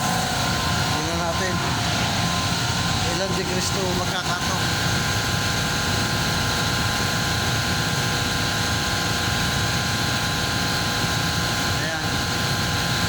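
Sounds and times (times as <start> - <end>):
compressor drone with high tones: 0.0 - 13.0.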